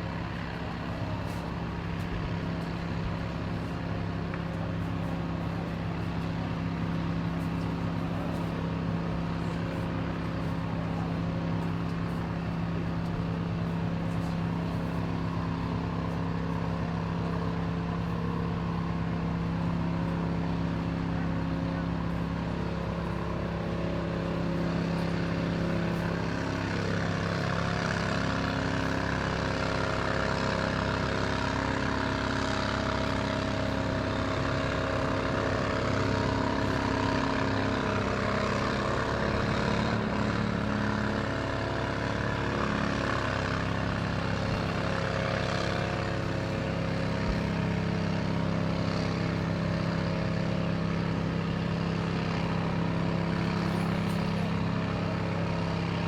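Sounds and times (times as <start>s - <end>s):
large engine running steadily: 0.0s - 56.0s.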